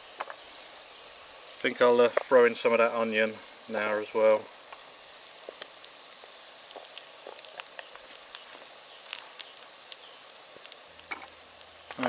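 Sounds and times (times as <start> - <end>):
potatoes and onion sizzling in oil: 0.0 - 12.0.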